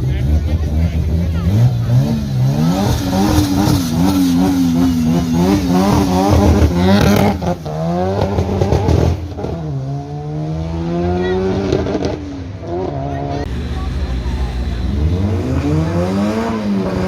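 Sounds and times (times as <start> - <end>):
car engine revving and accelerating: 0.0 - 17.0.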